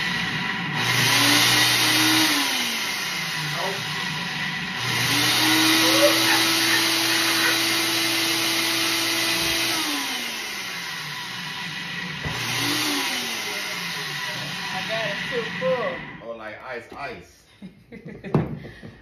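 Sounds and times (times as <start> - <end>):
blender motor running: 0.0 - 16.3.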